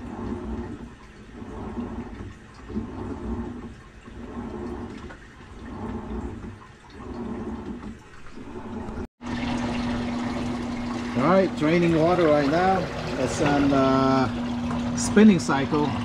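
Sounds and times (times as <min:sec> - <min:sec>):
low motor hum: 0:00.0 - 0:16.0
washing machine water swishing: 0:00.0 - 0:16.0.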